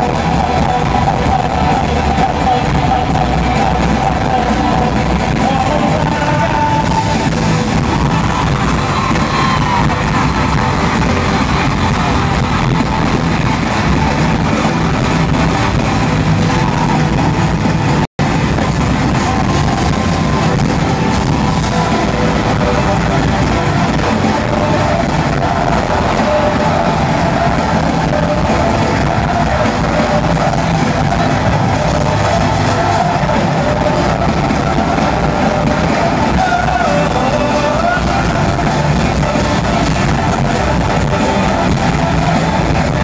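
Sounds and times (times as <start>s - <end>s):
crowd voices: 0.0s - 43.0s
live pop concert music: 0.0s - 43.0s.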